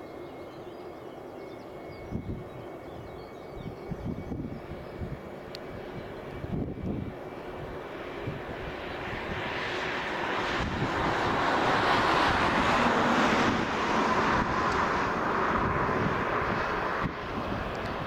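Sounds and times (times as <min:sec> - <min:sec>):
jet engines at take-off: 0:00.0 - 0:18.0
steady jet whine: 0:00.0 - 0:18.0.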